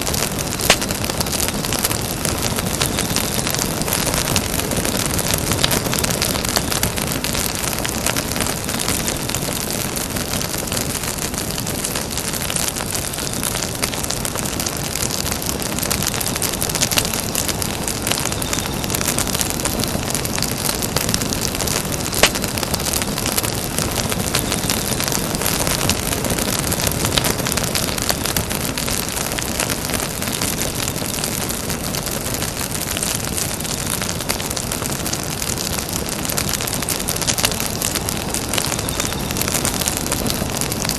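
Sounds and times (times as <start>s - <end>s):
campfire crackling and hissing: 0.0s - 40.9s.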